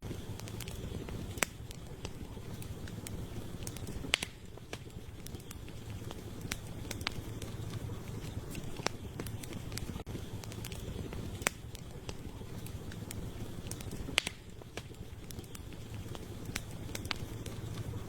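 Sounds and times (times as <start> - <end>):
campfire crackling and popping: 0.0 - 18.0
low rush of burning: 0.0 - 18.0.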